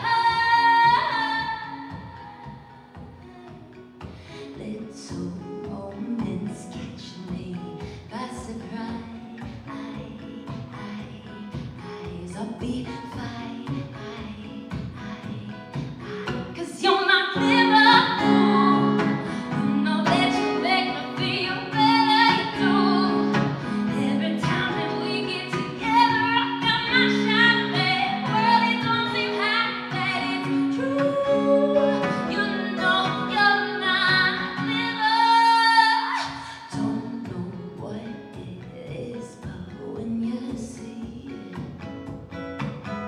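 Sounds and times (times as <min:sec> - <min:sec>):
woman singing: 0:00.0 - 0:42.2
strummed acoustic guitar: 0:00.0 - 0:43.0.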